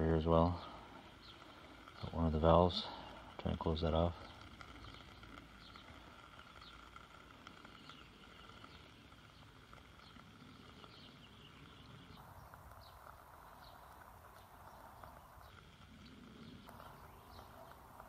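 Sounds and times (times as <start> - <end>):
soft steady hiss: 0.0 - 18.0.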